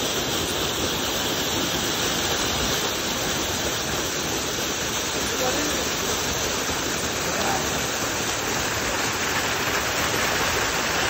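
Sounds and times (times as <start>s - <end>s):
shower water rushing: 0.0s - 11.0s.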